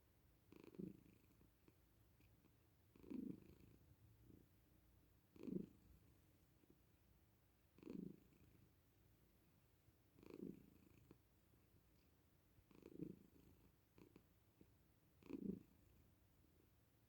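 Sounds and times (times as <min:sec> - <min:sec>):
cat purring: 0:00.5 - 0:06.8, 0:07.7 - 0:08.8, 0:10.1 - 0:16.6.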